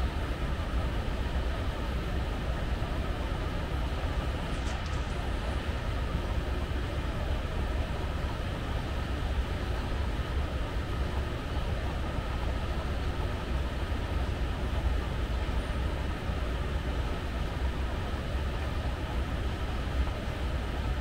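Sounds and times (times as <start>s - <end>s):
moving walkway rumble and whir: 0.0s - 21.0s.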